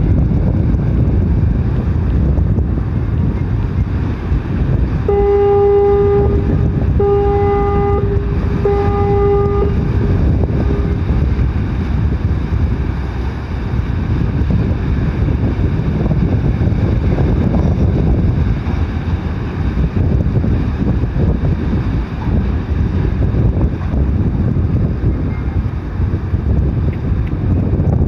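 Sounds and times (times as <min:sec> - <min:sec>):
deep ship's horn blasts: 0:00.0 - 0:26.6
wind rumble on microphone: 0:00.0 - 0:28.0.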